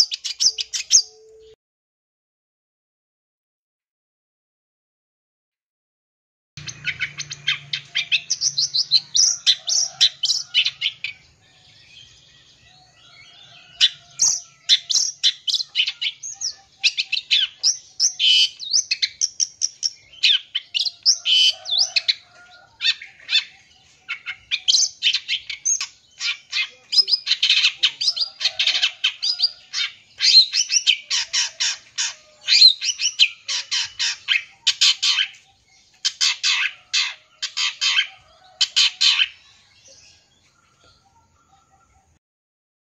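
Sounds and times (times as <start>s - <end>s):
bird chattering song: 0.0s - 1.6s, 6.6s - 42.2s.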